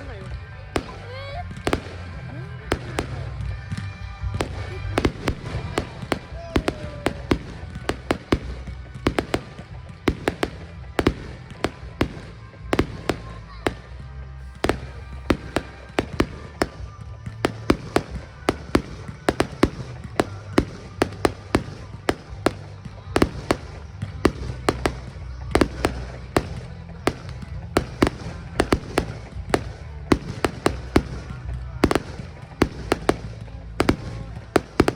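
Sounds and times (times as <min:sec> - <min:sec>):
fireworks bangs: 0:00.0 - 0:34.9.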